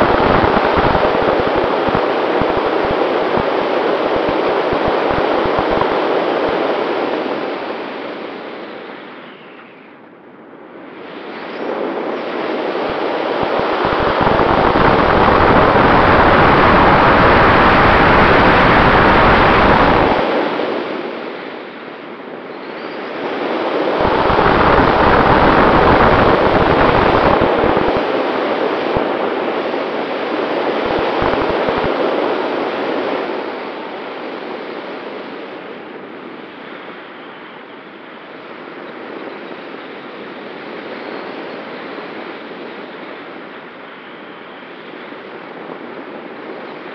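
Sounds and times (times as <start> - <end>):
wind rushing over microphone: 0.0 - 9.2, 10.5 - 46.9.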